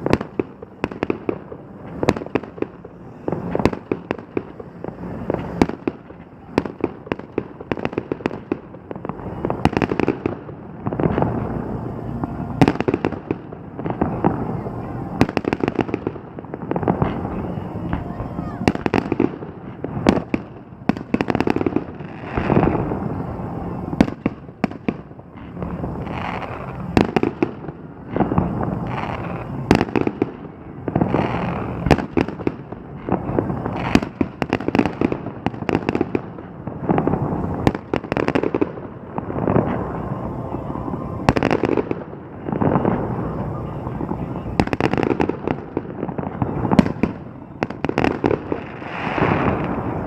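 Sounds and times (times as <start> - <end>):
fireworks bursting: 0.0 - 50.0.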